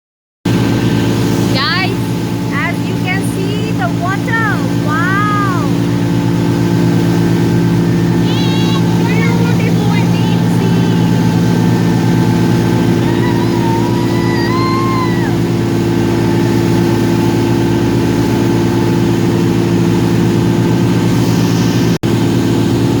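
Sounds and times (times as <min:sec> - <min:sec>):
ferry engines droning: 0:00.5 - 0:23.0.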